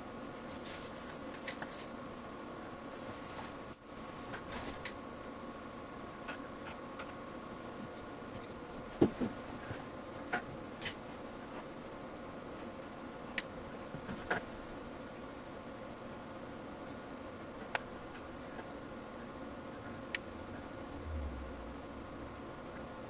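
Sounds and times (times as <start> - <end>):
electronics hum and faint whine: 0.0 - 23.0.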